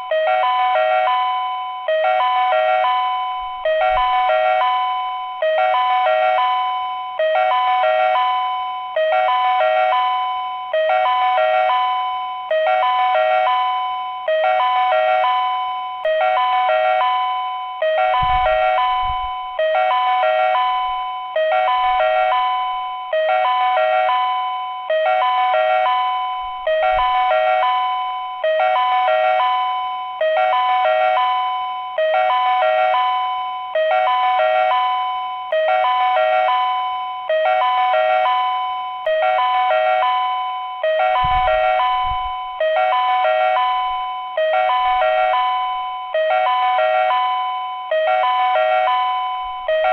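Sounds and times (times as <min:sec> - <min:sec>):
electronic warning chime: 0:00.0 - 0:49.9.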